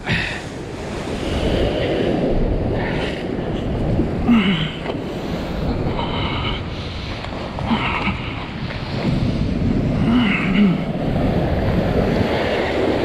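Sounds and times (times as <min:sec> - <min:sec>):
waves breaking against rock: 0:00.0 - 0:13.0
wind buffeting microphone: 0:00.0 - 0:13.0.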